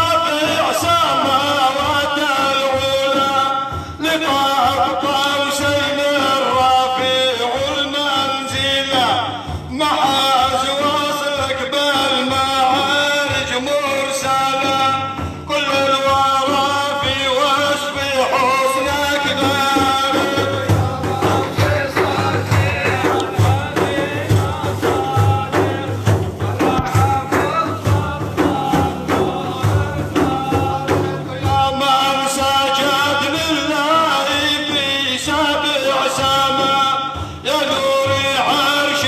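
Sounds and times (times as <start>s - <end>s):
regular drum beat: 0.0s - 39.0s.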